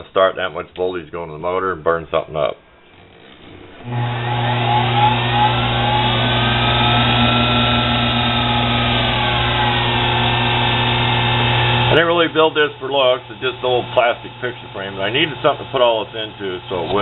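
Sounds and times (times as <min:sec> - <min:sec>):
electric motor humming and whining: 0:02.9 - 0:17.0.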